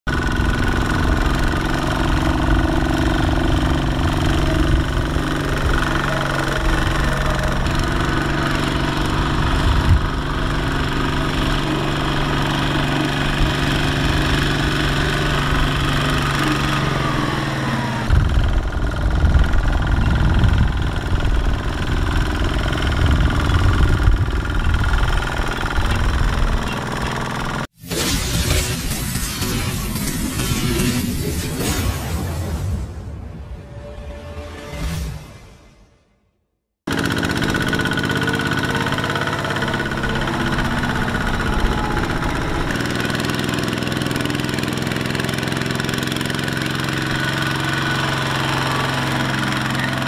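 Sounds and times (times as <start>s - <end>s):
diesel tractor engines under load: 0.1s - 31.7s, 36.9s - 50.0s.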